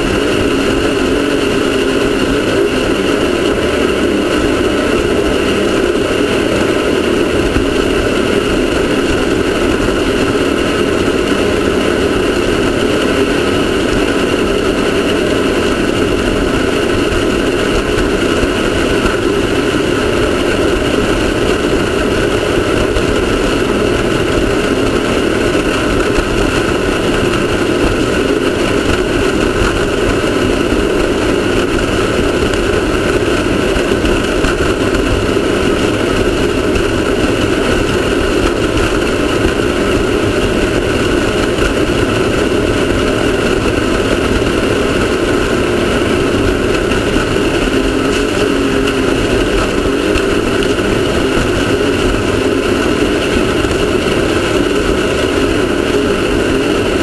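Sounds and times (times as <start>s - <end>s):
race car engine running: 0.0s - 57.0s.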